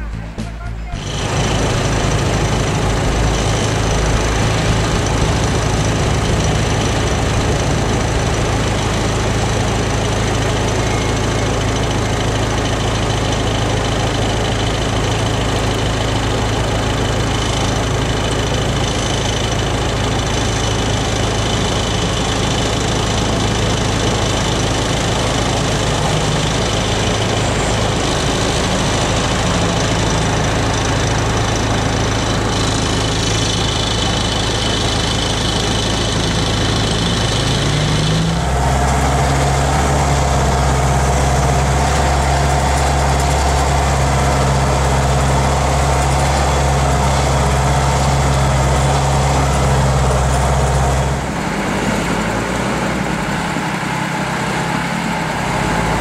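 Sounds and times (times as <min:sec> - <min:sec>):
diesel truck engines droning: 0:00.0 - 0:56.0.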